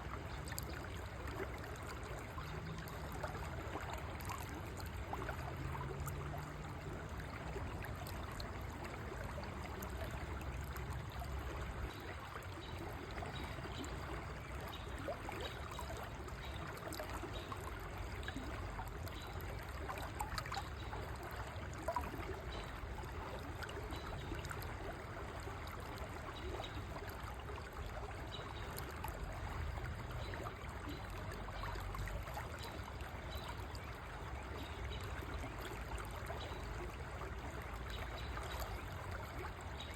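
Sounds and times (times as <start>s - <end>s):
river water flowing: 0.0s - 39.9s
water trickles and splashes: 0.0s - 39.9s.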